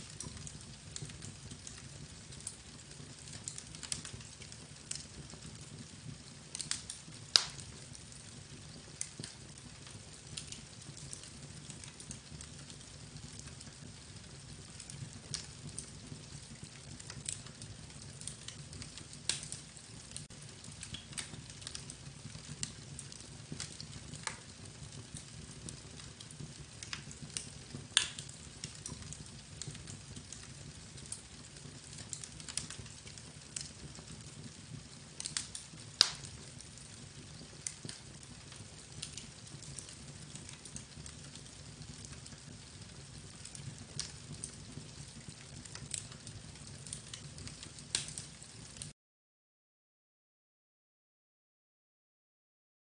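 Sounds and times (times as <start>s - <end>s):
sharp crackles and clicks: 0.0s - 48.9s.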